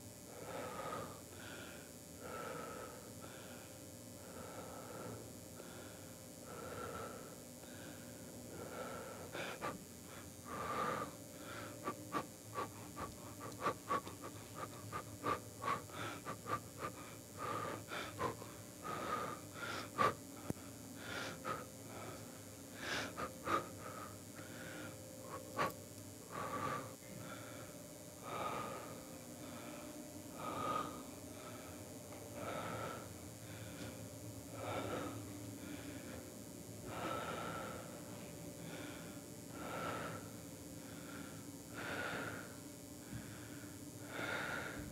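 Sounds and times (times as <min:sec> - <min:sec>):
person breathing: 0:00.3 - 0:44.9.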